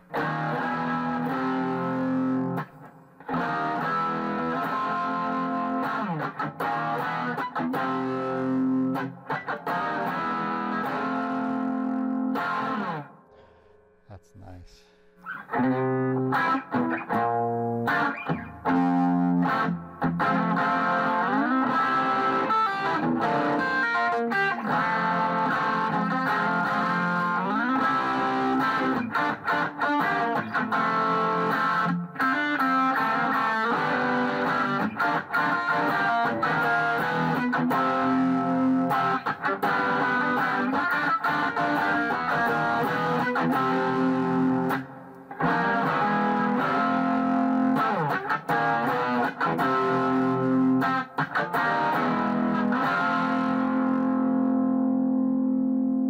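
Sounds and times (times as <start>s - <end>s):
electric guitar lead with bends: 0.0s - 13.6s, 15.2s - 56.0s.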